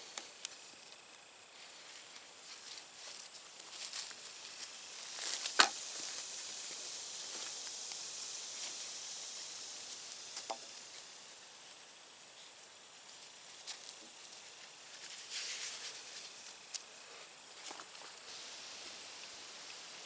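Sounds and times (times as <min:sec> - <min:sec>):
high hiss: 0:00.0 - 0:20.0.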